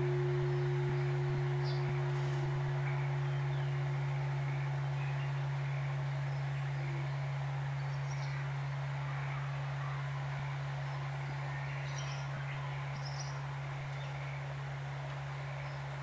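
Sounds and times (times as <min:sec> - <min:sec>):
faint bird chirps: 0:00.0 - 0:14.5
faint higher bell tone: 0:00.0 - 0:14.5
temple bell humming: 0:00.0 - 0:16.0.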